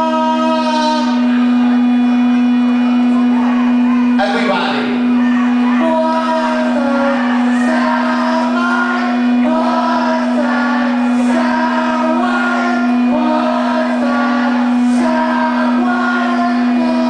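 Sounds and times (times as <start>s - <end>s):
low droning note: 0.0s - 17.0s.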